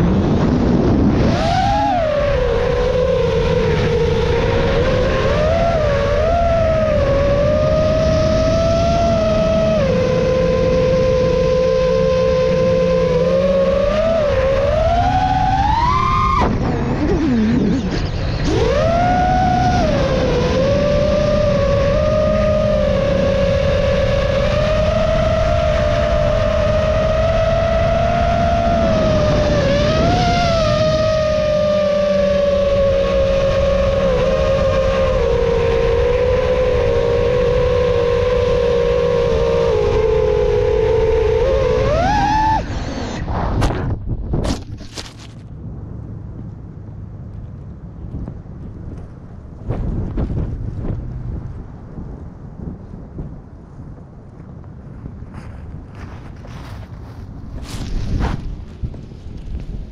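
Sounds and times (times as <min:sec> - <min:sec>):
drone motors whining: 0:00.0 - 0:51.8
wind buffeting microphone: 0:00.0 - 0:59.9.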